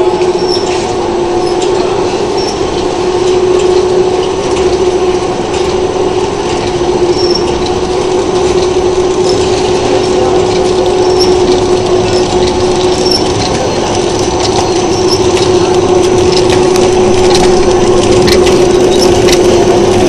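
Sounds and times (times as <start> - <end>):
packaging machine humming: 0.0 - 20.0
faint mechanism clicks: 0.2 - 20.0.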